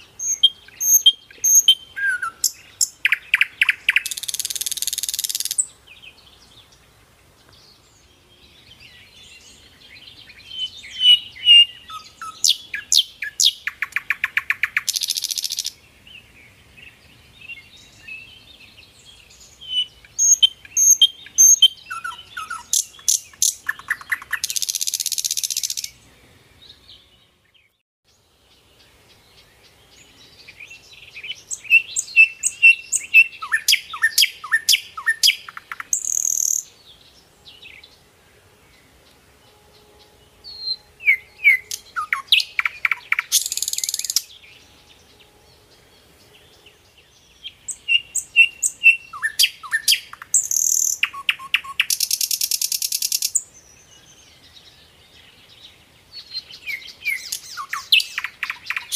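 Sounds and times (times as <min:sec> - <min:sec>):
songbirds chirping and twittering: 0:00.0 - 0:58.9.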